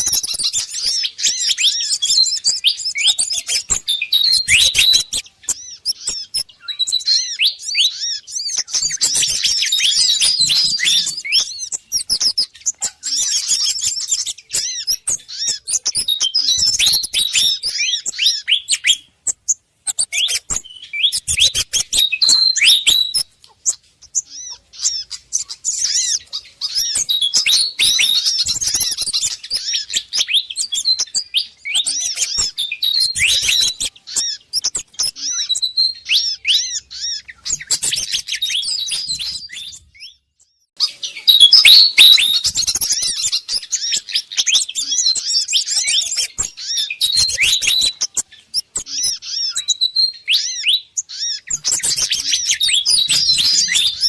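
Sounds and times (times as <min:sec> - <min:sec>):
birds chirping and scolding: 0:00.0 - 0:54.0.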